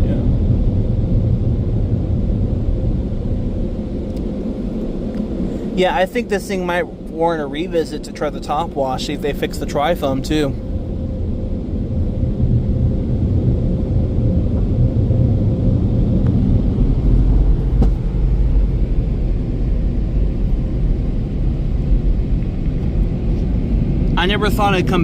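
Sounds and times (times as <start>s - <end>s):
dryer blowers rumbling: 0.0s - 25.0s
faint steady hum: 0.0s - 25.0s.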